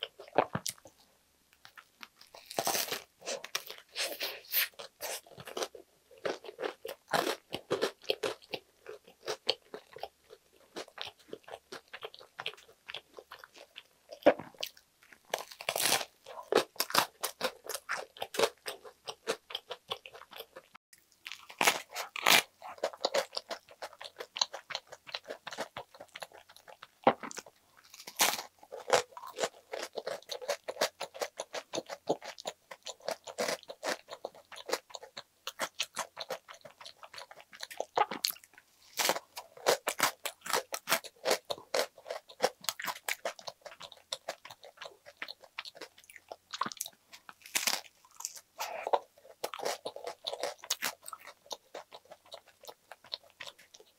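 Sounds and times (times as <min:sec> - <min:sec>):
crisp bread crunching: 0:01.6 - 0:53.9
wet chewing: 0:01.6 - 0:53.9.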